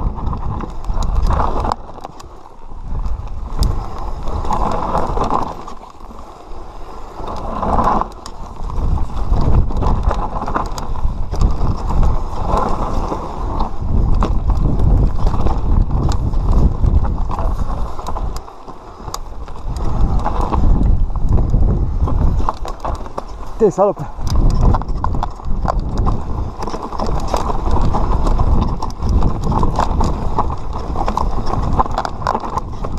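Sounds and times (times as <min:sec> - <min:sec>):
bike knocking and rattling: 0:00.0 - 0:32.9
bike tyres rumbling over dirt: 0:00.0 - 0:32.9.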